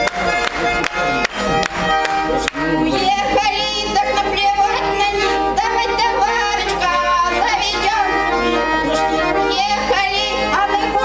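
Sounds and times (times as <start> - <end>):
button accordion playing chords: 0.0 - 11.0.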